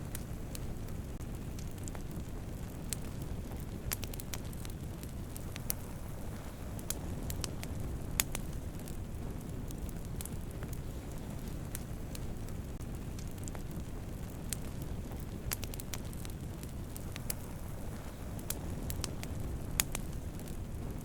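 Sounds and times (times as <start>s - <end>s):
campfire flames rumbling: 0.0s - 21.0s
fire crackles and pops: 0.0s - 21.0s.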